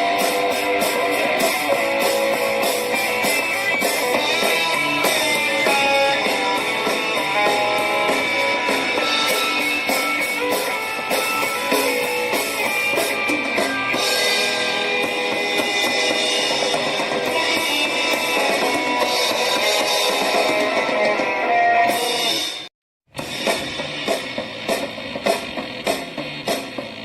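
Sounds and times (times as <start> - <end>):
guitar song through small speaker: 0.0 - 27.0.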